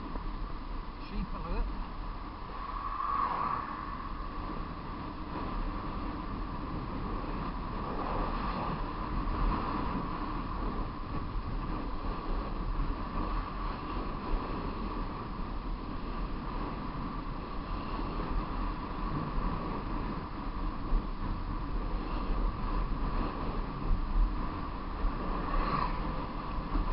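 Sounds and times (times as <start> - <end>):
low vehicle and road rumble: 0.0 - 26.9
wind buffeting microphone: 0.0 - 26.9.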